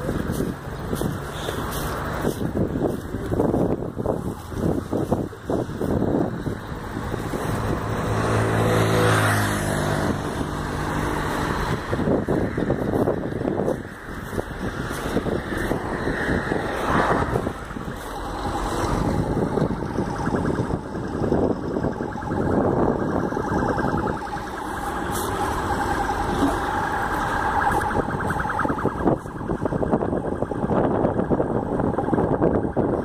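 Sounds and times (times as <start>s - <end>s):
rapidly pulsing tone: 0.0s - 33.0s.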